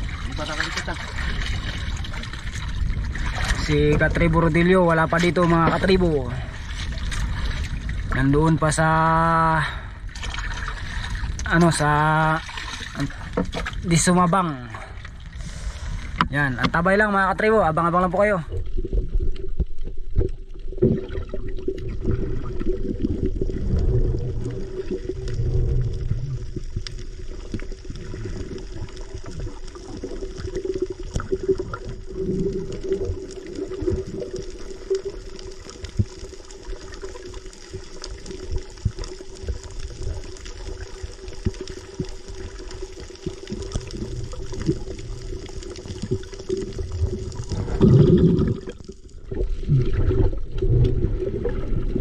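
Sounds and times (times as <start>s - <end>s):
surge of water: 0.0s - 17.3s, 17.9s - 52.0s
water sloshing and gurgling: 0.0s - 52.0s.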